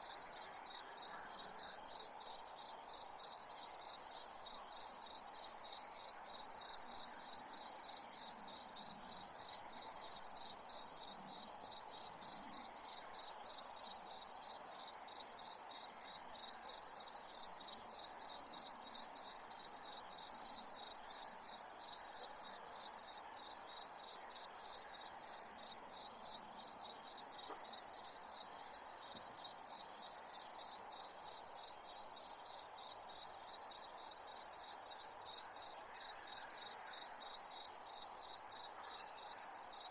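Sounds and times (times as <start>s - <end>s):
crickets chirping: 0.0s - 39.9s
faint background hiss: 0.0s - 39.9s.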